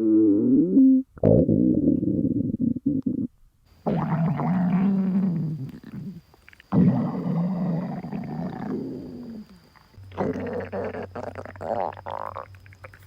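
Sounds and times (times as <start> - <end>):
stomach growling: 0.0 - 13.0.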